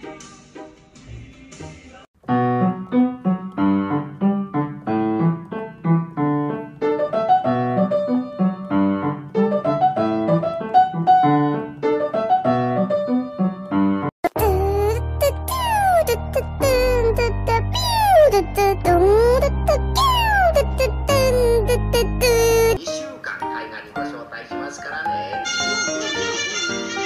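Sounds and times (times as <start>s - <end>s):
piano melody: 2.2s - 27.0s.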